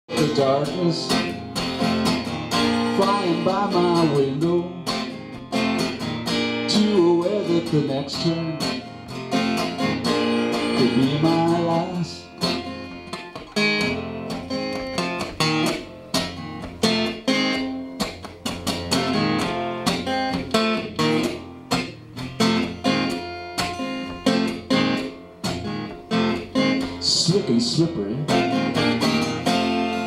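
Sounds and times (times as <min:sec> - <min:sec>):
acoustic guitar strumming: 0:00.1 - 0:30.0.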